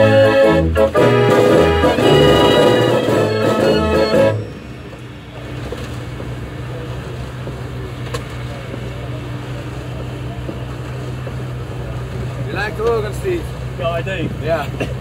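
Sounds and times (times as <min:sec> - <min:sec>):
engine low hum: 0:00.0 - 0:15.0.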